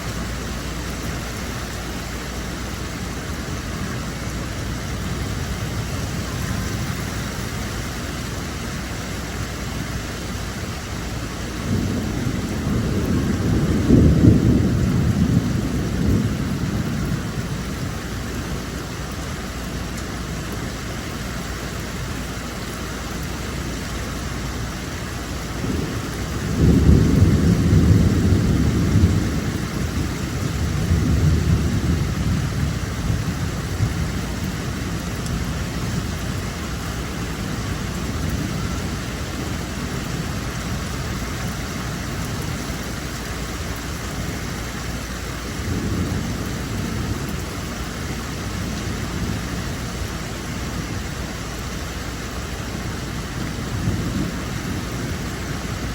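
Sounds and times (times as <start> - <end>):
rain falling: 0.0 - 55.9
thunder rumbling: 0.0 - 55.9.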